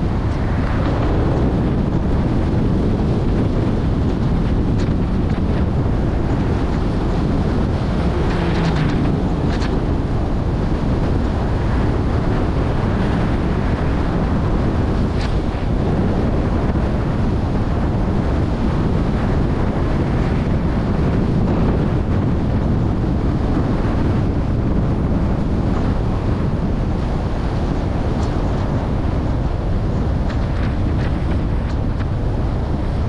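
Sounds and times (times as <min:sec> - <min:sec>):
road and tyre noise: 0:00.0 - 0:33.0
wind rumbling on microphone: 0:00.0 - 0:33.0.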